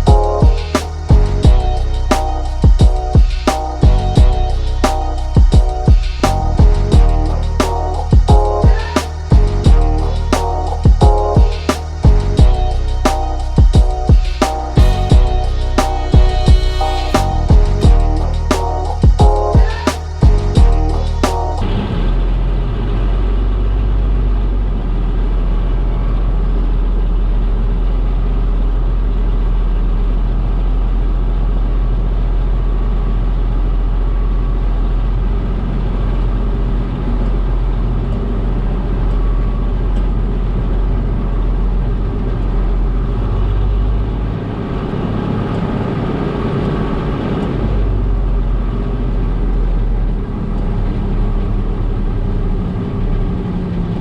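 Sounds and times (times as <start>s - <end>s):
machinery engine droning: 0.0s - 54.0s.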